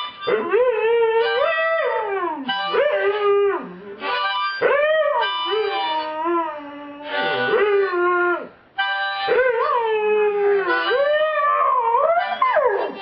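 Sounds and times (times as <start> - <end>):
harmonica chords: 0.0 - 6.4, 7.0 - 8.0, 8.8 - 9.9, 10.5 - 13.0.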